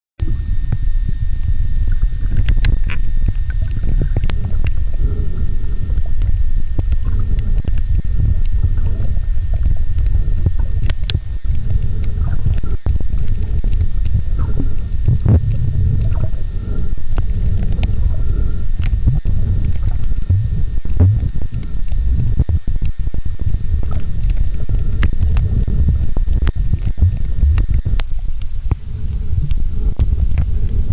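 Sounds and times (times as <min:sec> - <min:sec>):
faint high whine: 0:00.2 - 0:30.9
underwater rumble of water: 0:00.2 - 0:30.9
sharp clicks and crackles: 0:00.6 - 0:30.9.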